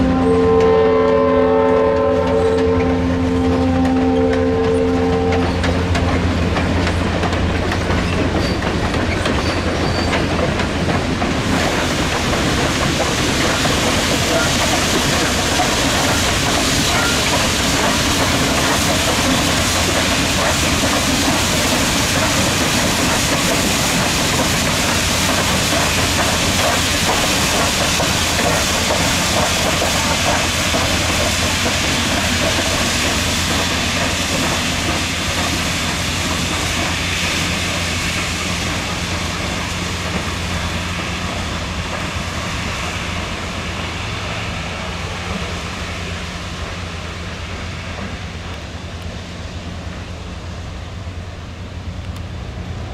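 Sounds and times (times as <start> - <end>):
steam locomotive passing: 0.0 - 52.9.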